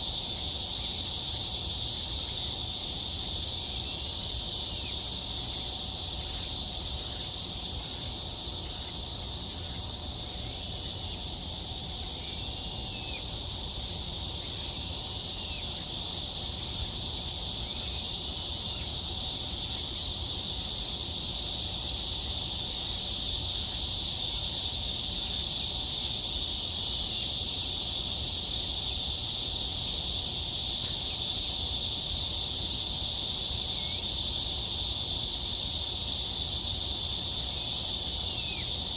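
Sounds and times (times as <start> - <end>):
cicada chorus buzzing: 0.0 - 38.9.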